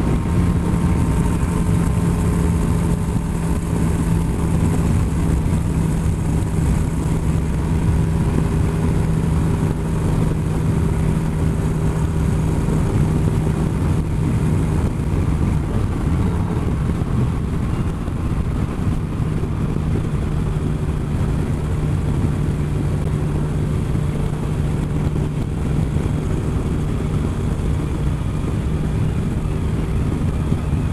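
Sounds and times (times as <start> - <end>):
motorcycle engine humming: 0.0 - 30.9
road noise: 0.0 - 30.9
wind noise: 0.0 - 30.9.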